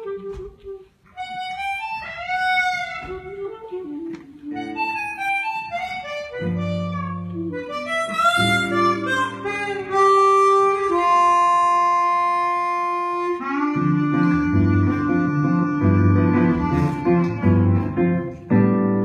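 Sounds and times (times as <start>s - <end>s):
guitar accompaniment: 0.0s - 19.0s
harmonica melody: 0.0s - 19.0s.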